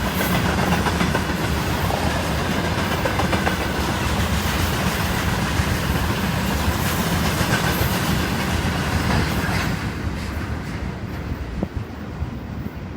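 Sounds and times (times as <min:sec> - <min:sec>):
train wheels clattering over rails: 0:00.0 - 0:11.8.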